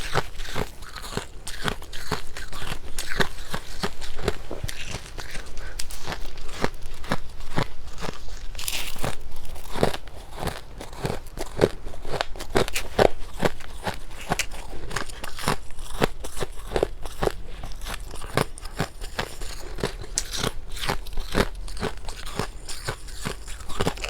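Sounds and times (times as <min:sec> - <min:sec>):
chewing crunchy frost: 0:00.0 - 0:24.0.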